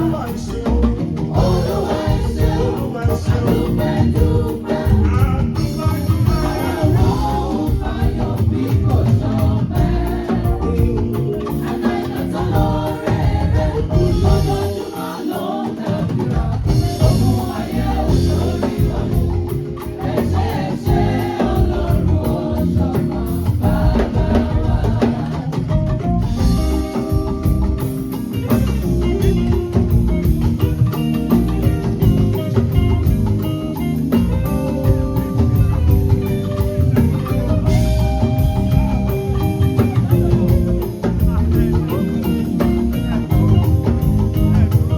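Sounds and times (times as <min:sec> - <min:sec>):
drum kit and percussion beat: 0:00.0 - 0:44.9
gospel choir singing: 0:00.0 - 0:44.9.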